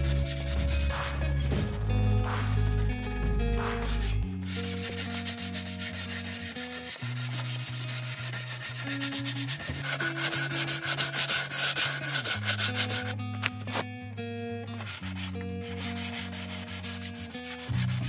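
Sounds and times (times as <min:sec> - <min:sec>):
hand sanding wood: 0:00.0 - 0:01.2, 0:02.2 - 0:13.2, 0:14.8 - 0:18.0.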